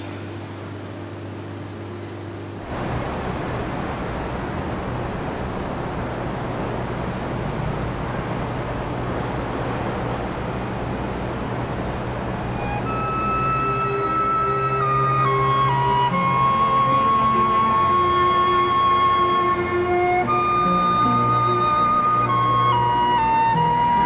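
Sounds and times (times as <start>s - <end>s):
city traffic rumble and hiss: 0.0s - 24.0s.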